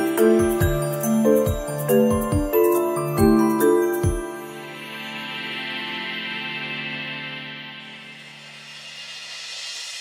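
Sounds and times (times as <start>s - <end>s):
light chiming background music: 0.0s - 8.6s.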